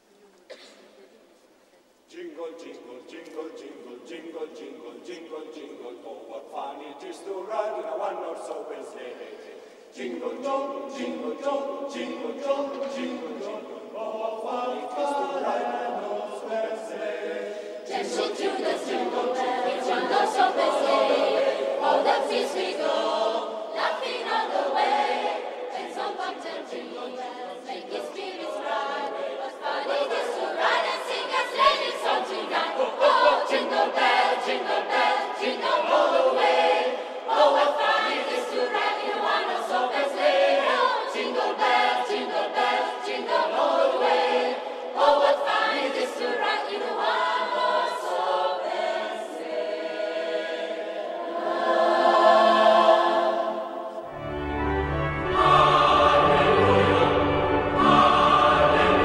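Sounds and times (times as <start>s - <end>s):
choir singing a cappella: 2.1s - 59.0s.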